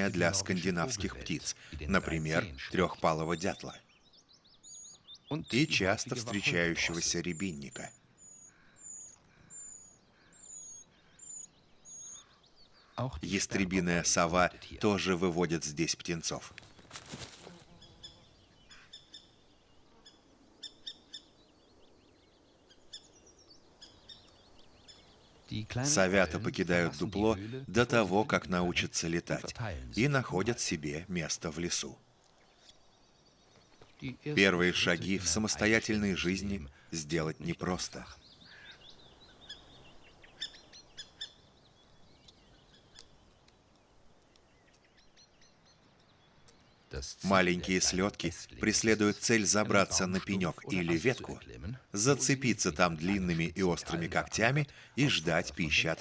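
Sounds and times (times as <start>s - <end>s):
birds chirping: 0.0s - 56.0s
forest ambience hiss: 0.0s - 56.0s
soft bird twittering: 0.0s - 56.0s.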